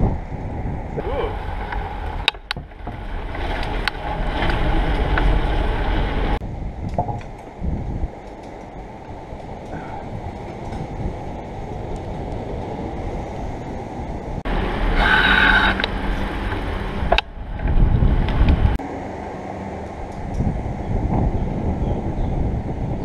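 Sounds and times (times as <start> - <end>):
bicycle road noise: 0.0 - 23.0
wind rumble on microphone: 0.0 - 23.0.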